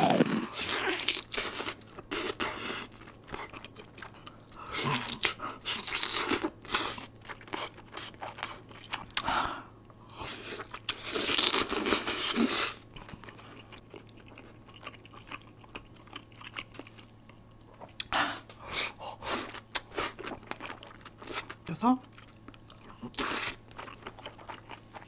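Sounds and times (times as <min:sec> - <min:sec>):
loud crunching of food: 0:00.0 - 0:25.0.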